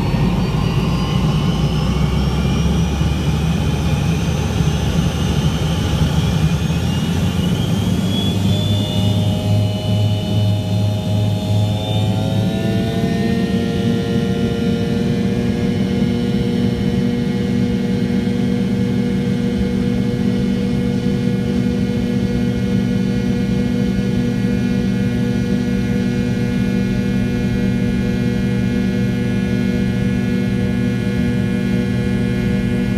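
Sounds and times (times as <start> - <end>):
jet engines roaring with whine: 0.0 - 32.9.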